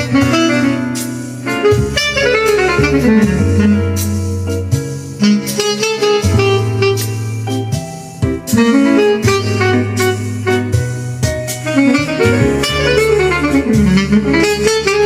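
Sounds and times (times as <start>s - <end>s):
jazz music with bass line: 0.0s - 15.0s.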